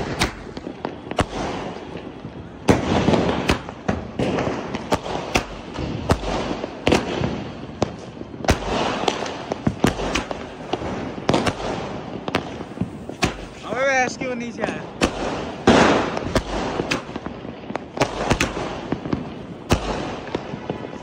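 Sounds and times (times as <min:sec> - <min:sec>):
firecrackers banging: 0:00.0 - 0:21.0.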